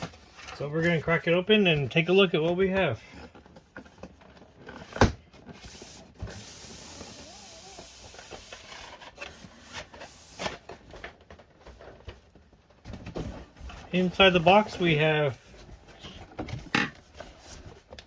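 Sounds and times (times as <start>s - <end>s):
packaging rustling and scraping: 0.0s - 18.0s.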